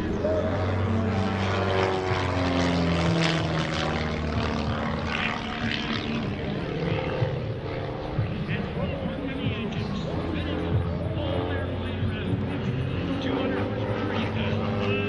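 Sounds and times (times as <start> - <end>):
propeller plane engine overhead: 0.0 - 15.0.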